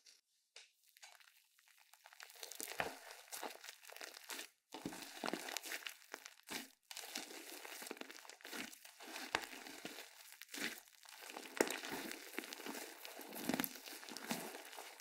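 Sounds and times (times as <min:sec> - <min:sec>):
slime squishing and popping: 0:00.9 - 0:15.0.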